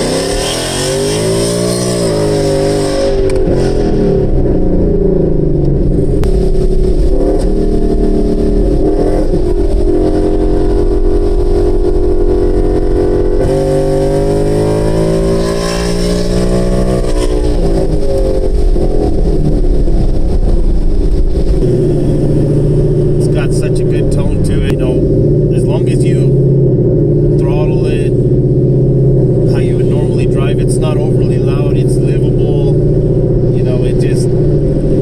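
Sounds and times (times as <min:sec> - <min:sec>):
car engine revving through gears: 0:00.0 - 0:35.0.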